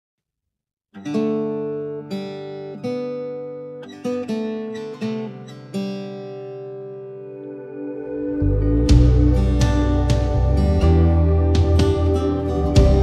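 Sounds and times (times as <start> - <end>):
acoustic guitar strumming: 1.0 - 13.0.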